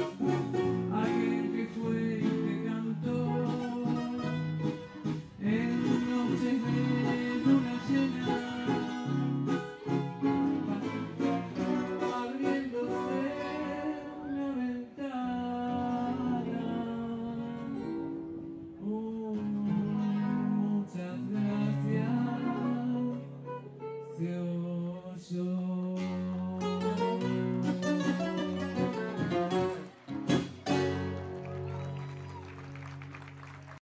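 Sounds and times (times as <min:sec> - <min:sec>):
classical guitars playing waltz: 0:00.0 - 0:24.5, 0:25.8 - 0:32.0.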